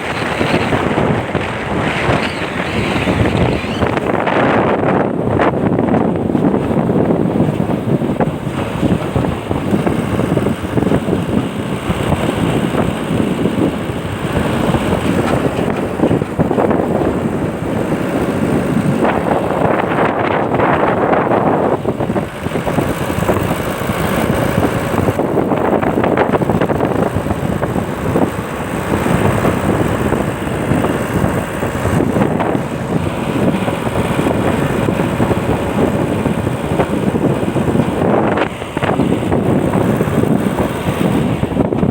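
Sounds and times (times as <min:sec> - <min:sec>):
car engine: 0:00.0 - 0:41.9
road noise: 0:00.0 - 0:41.9
wind buffeting microphone: 0:00.0 - 0:41.9.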